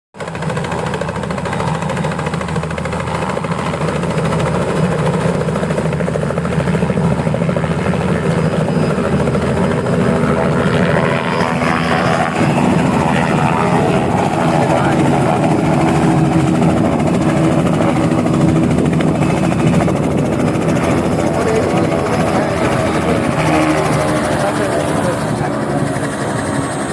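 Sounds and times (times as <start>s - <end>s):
helicopter engine whine: 0.2s - 26.9s
helicopter rotor beating: 0.2s - 26.9s.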